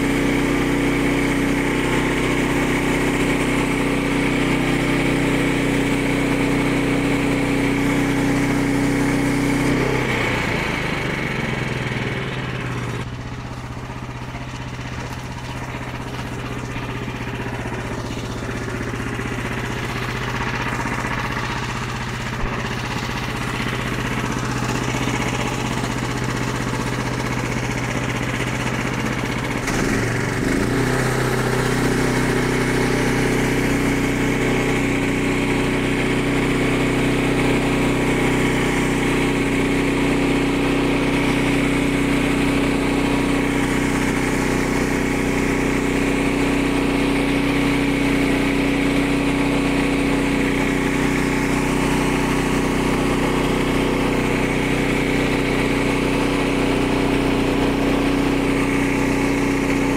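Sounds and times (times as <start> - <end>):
band saw cutting log: 0.0 - 13.1, 14.8 - 59.9
small gasoline engine running: 0.0 - 59.9.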